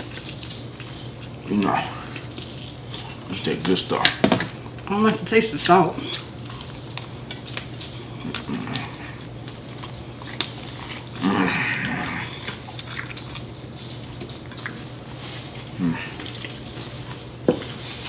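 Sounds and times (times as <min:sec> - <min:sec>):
chewing fried chicken: 0:00.0 - 0:04.9, 0:05.5 - 0:18.0.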